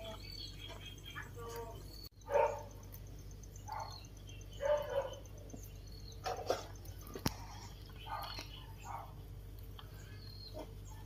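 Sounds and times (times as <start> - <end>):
baby monkeys calling: 0.0 - 9.2.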